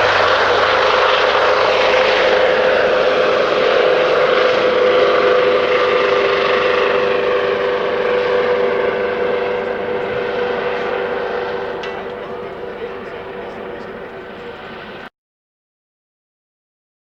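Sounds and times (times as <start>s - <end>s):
helicopter rotor and turbine whine: 0.0s - 15.1s.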